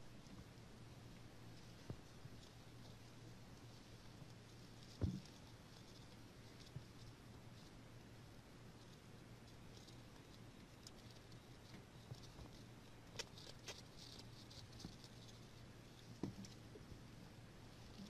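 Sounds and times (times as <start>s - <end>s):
faint crackles and ticks: 0.0s - 18.0s
low steady hum: 0.0s - 18.0s.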